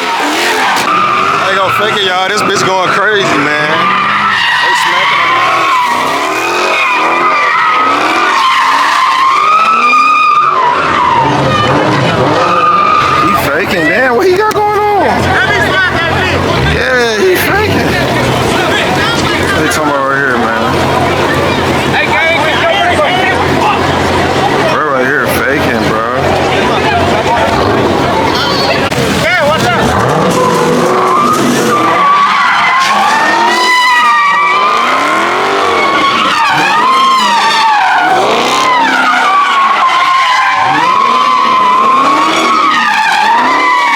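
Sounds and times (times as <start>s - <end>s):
car engine running: 0.0s - 43.9s
car tyres squealing: 0.0s - 43.9s.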